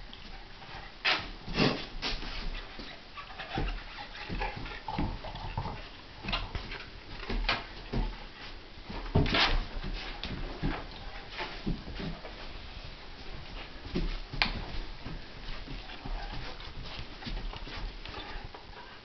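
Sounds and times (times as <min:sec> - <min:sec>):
dogs scuffling on tile floor: 0:00.0 - 0:19.0.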